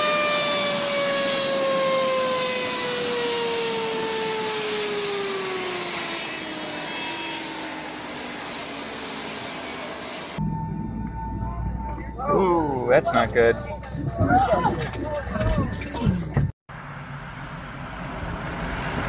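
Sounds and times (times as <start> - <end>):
turbine engine winding down: 0.0 - 19.0.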